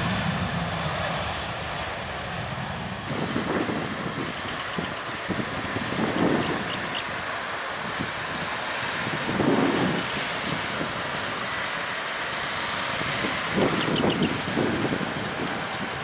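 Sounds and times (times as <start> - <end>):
outdoor rumble and hiss: 0.0 - 16.0
wind buffeting microphone: 0.0 - 16.0.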